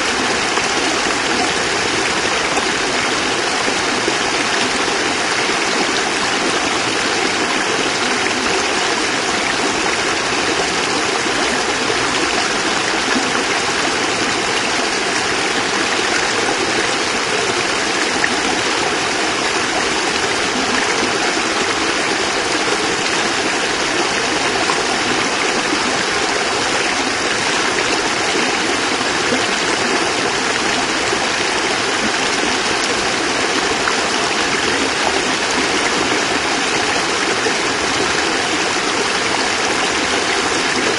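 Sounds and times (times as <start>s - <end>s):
water cascade splashing: 0.0s - 40.9s.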